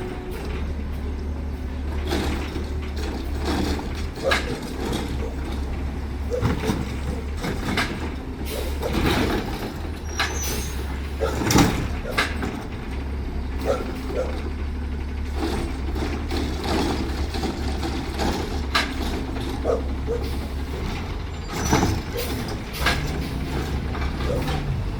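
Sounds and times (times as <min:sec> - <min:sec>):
garbage truck engine droning: 0:00.0 - 0:24.9
machinery clanks and knocks: 0:00.0 - 0:24.9.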